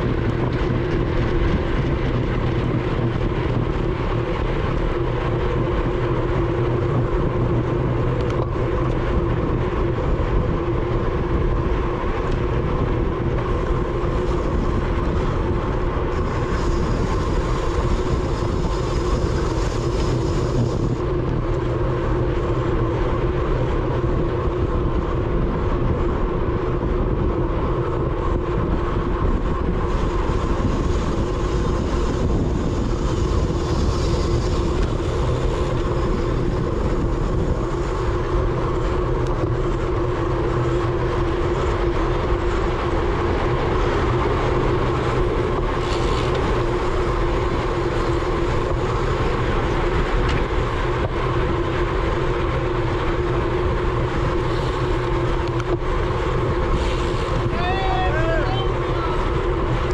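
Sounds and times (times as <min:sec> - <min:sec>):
constant hum: 0:00.0 - 0:59.9
road rumble: 0:00.0 - 0:59.9
wind rush on microphone: 0:00.0 - 0:59.9.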